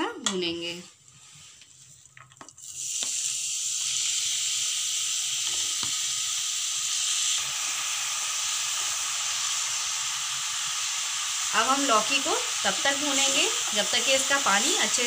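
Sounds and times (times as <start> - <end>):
vegetables sizzling in oil: 2.6 - 15.0.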